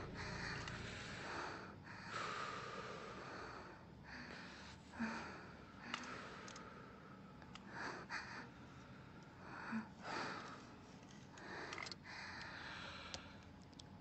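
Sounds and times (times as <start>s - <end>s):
woman breathing heavily: 0.0s - 13.6s.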